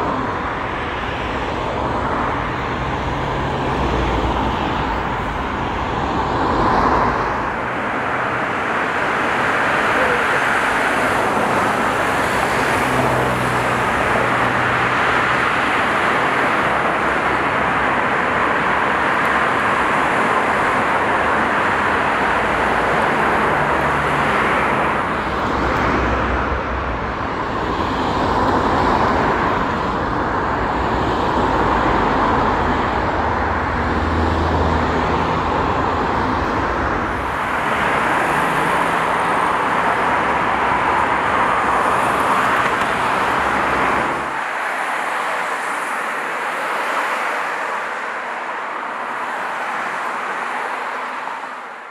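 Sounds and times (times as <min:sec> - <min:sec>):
cars passing by: 0:00.0 - 0:51.9.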